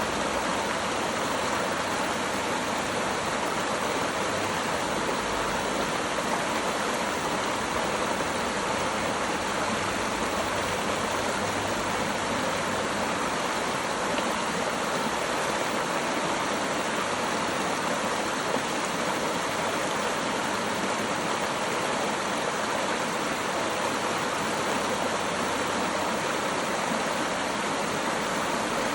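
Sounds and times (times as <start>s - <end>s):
running water flowing: 0.0s - 28.9s.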